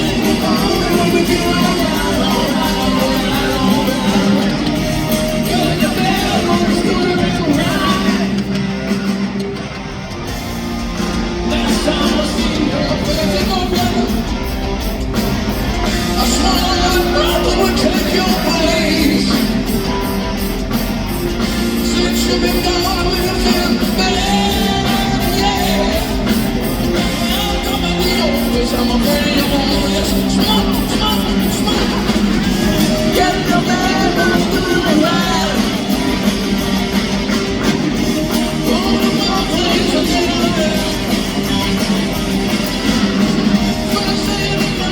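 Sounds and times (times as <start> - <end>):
person singing: 0.0 - 8.6, 11.4 - 14.6, 15.8 - 44.9
guitar: 0.0 - 44.9
rock band playing loudly: 0.0 - 44.9
steady drum beat: 0.0 - 44.9.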